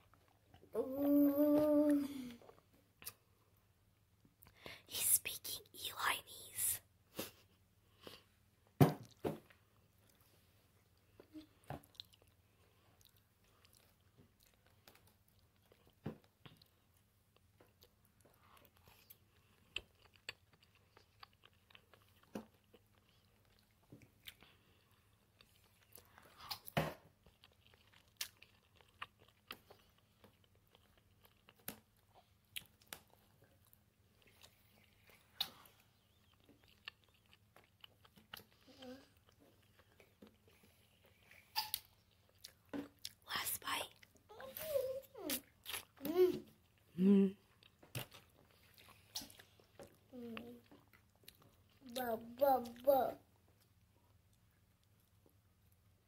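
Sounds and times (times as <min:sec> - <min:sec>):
person chewing food: 0:02.3 - 0:04.7, 0:07.1 - 0:43.2, 0:45.3 - 0:46.0, 0:46.6 - 0:52.8.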